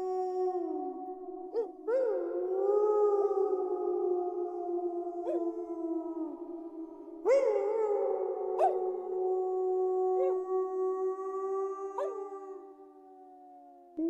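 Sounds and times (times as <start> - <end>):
wolves howling in chorus: 0.0 - 14.0.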